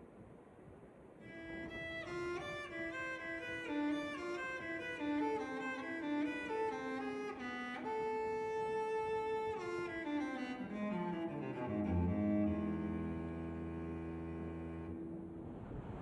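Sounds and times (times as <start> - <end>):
solo cello melody: 1.2 - 15.4.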